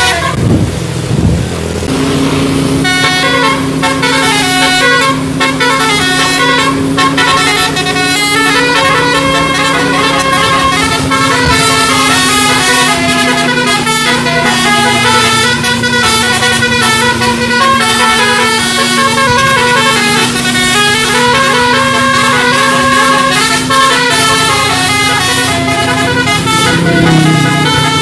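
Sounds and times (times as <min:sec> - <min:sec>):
musical air horn playing a tune: 0:00.0 - 0:00.5, 0:02.8 - 0:28.0.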